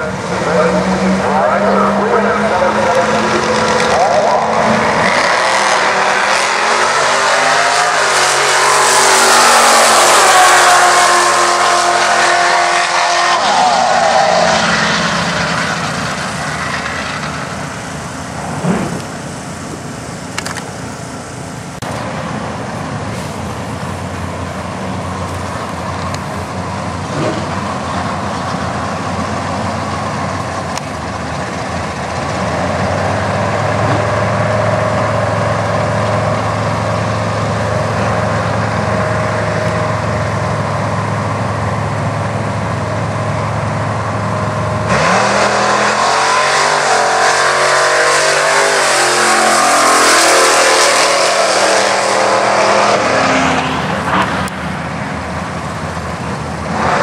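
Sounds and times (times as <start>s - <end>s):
dragster engine at full throttle: 0.0s - 20.6s, 21.2s - 57.0s
low rumble of race car engines: 0.0s - 57.0s.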